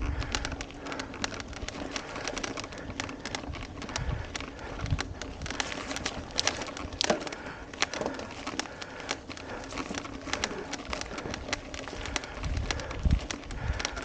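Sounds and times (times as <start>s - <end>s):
bike rattling over bumps: 0.0s - 14.0s
bike tyres rumbling on gravel: 0.0s - 14.0s.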